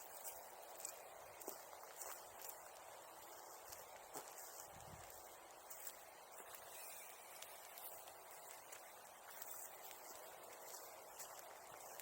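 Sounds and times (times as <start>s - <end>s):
bonfire crackling: 0.0s - 12.0s
quiet hiss: 0.0s - 12.0s.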